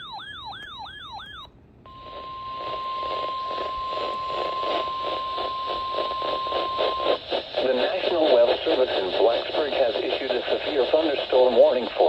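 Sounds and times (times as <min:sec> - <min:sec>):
radio static: 0:02.0 - 0:12.0.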